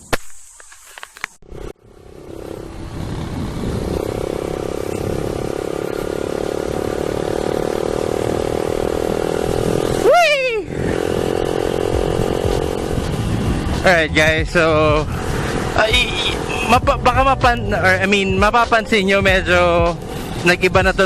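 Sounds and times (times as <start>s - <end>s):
road noise: 0.0s - 21.0s
motorcycle engine running: 1.4s - 21.0s.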